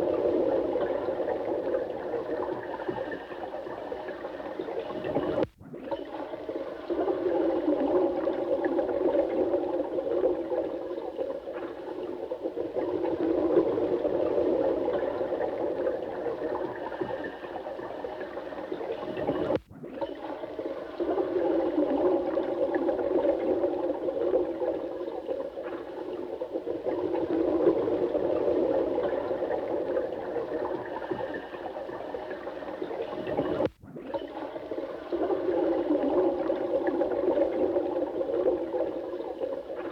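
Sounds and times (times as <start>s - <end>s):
running water gurgling: 0.0s - 39.9s.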